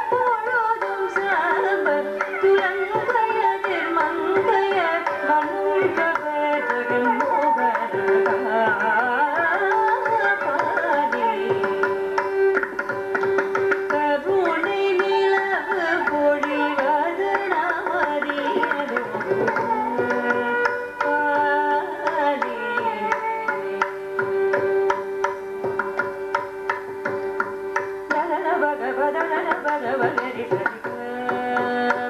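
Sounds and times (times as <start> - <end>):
woman singing: 0.0 - 25.4, 28.1 - 32.0
violin melody: 0.0 - 32.0.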